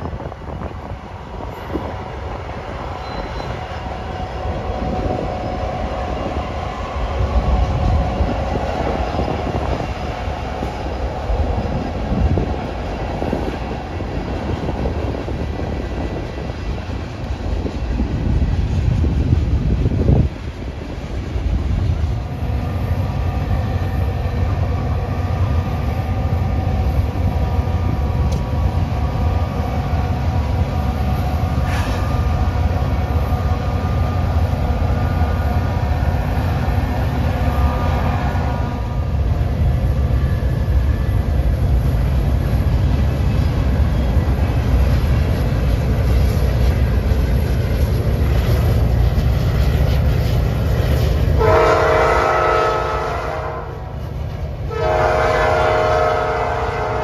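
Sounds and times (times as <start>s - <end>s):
freight train rumbling on rails: 0.0s - 57.0s.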